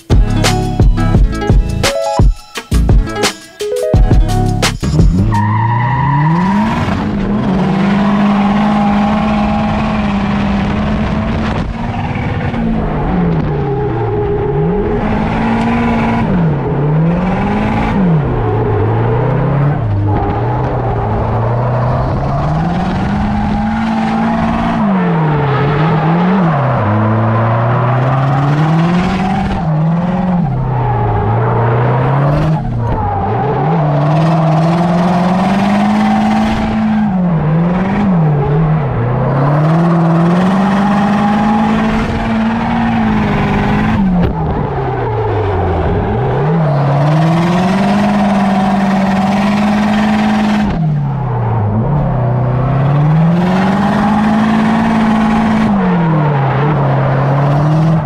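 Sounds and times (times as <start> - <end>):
car engine revving: 4.4 - 58.0.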